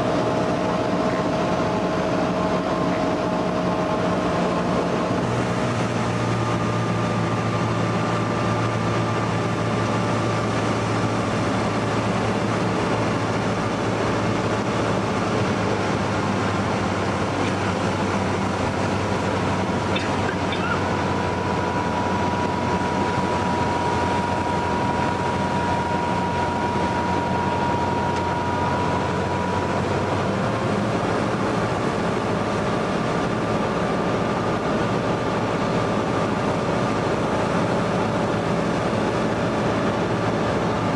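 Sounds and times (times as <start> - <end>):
airplane engine and propeller droning: 0.0 - 40.9.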